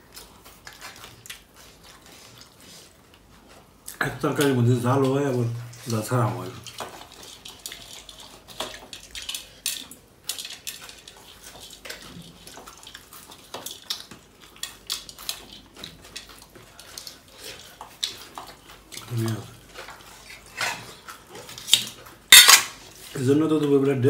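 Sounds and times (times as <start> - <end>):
chewing and lip-smacking: 0.0 - 23.7.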